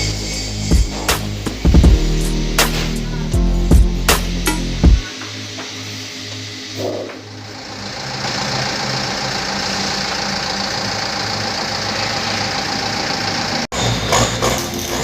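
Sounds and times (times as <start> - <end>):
diesel bus engine throbbing: 0.0 - 5.1, 7.4 - 15.0.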